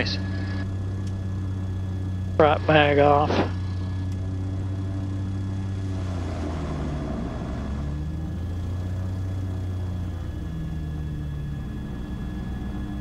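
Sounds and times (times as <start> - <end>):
twin piston engines droning: 0.0 - 13.0.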